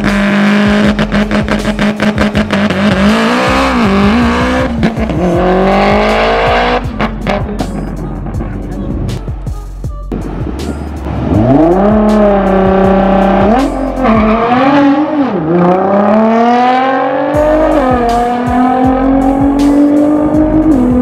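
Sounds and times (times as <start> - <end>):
car engine revving and accelerating: 0.0 - 9.1, 10.2 - 21.0.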